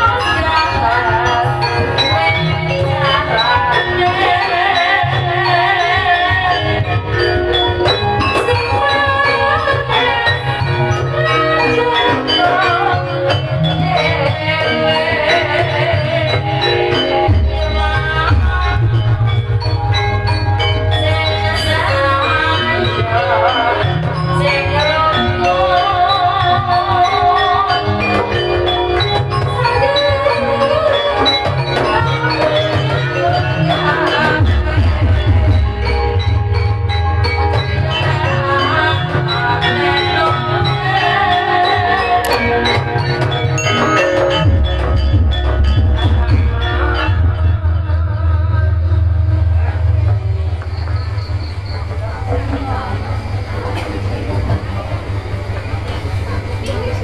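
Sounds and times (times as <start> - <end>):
gamelan ensemble playing: 0.0 - 57.0
metallophones ringing: 0.0 - 57.0
wavering vibrato melody: 0.0 - 57.0.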